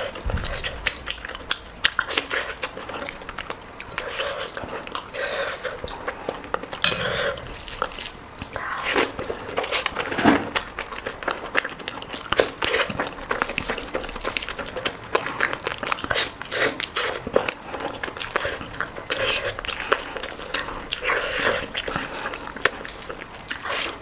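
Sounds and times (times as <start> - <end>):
wet chewing and lip smacks: 0.0 - 24.0.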